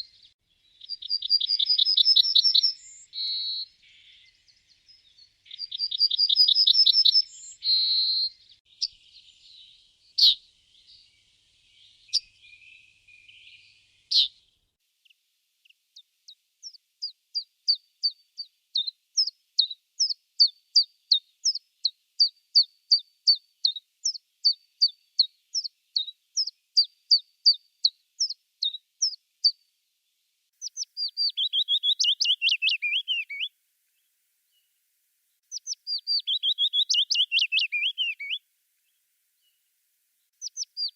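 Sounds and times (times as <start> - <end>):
songbirds singing: 0.0 - 34.8, 35.4 - 40.9.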